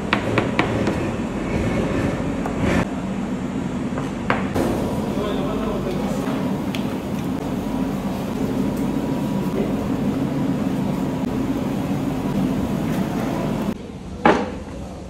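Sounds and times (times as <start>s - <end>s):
kitchen machinery roar: 0.0s - 14.1s.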